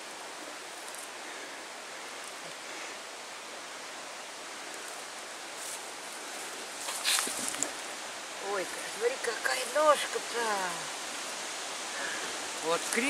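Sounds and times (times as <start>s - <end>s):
wind rustling tree leaves: 0.0s - 13.0s.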